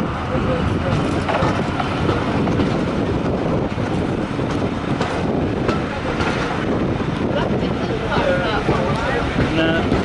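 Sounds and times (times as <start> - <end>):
train wheels rumbling and rattling: 0.0 - 10.0.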